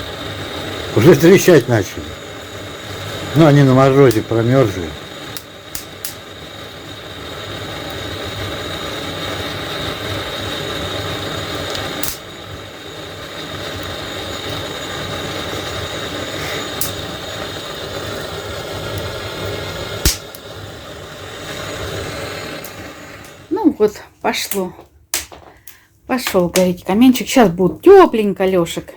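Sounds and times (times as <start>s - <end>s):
fire draft rushing: 0.0s - 26.0s
wood fire crackling and popping: 0.0s - 28.9s.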